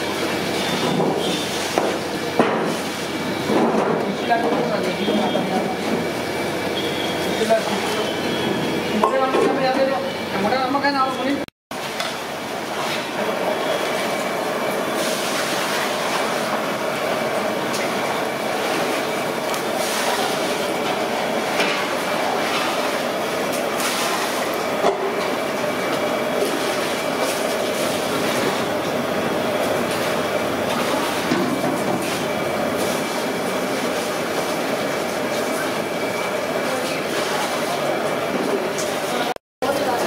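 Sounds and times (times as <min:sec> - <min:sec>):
deep-frying oil sizzle: 0:00.0 - 0:08.8, 0:11.8 - 0:37.9.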